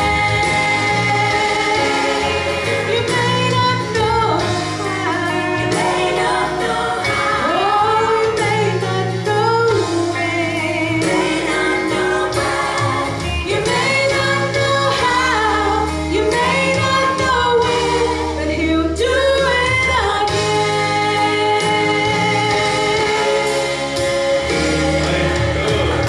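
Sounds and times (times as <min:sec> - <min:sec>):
instrumental accompaniment with bass: 0:00.0 - 0:26.0
woman singing gospel: 0:00.0 - 0:26.0.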